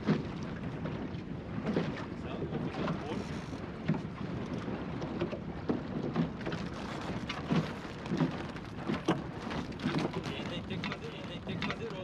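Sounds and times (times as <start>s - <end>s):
water rushing around boat bow: 0.0s - 12.0s
waves slapping hull: 0.0s - 12.0s.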